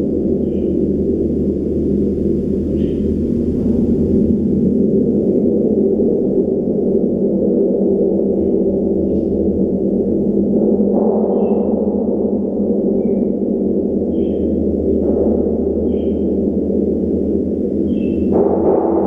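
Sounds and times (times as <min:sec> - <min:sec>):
giant gong low drone: 0:00.0 - 0:19.0.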